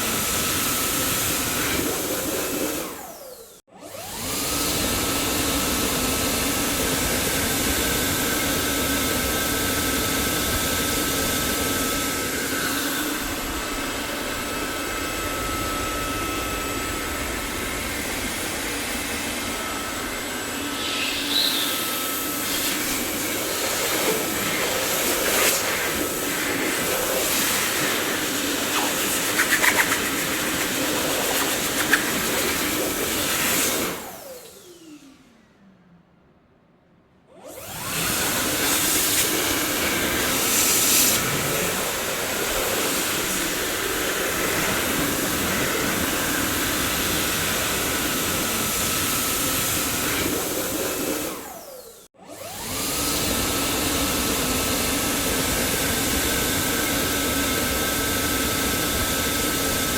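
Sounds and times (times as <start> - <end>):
vacuum cleaner running: 0.0 - 35.6, 37.3 - 59.9.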